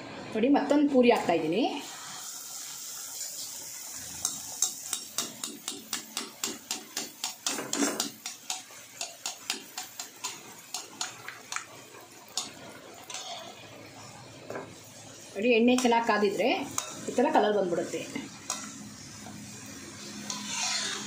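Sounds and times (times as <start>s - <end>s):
bread sizzling in hot oil: 1.3s - 21.0s.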